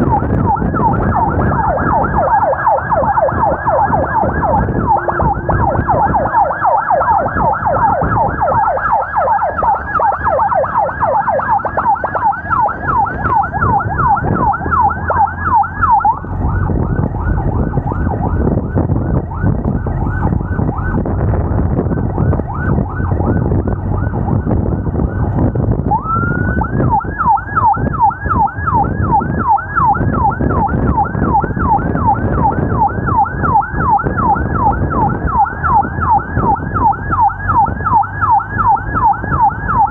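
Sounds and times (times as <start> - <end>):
emergency siren yelping: 0.0 - 39.9
road and engine noise: 0.0 - 39.9.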